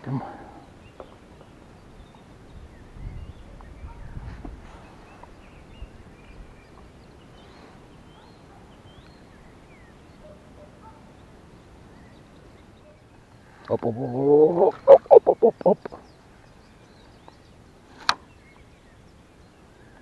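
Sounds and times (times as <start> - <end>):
songbirds chirping and whistling: 0.0 - 20.0.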